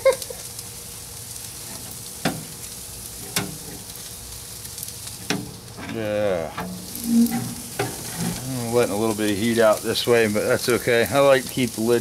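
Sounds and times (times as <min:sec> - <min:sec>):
meat sizzling on a grill: 0:00.0 - 0:07.1, 0:07.7 - 0:12.0.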